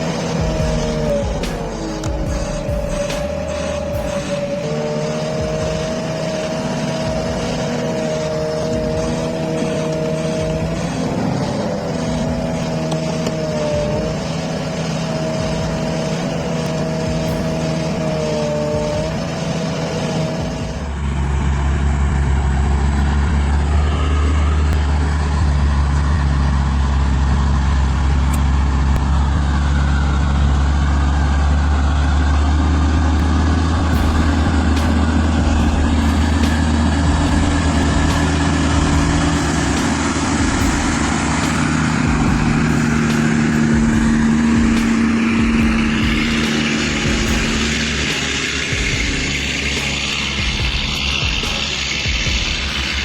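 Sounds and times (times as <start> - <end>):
heavy vehicle engine droning: 0.0 - 53.0.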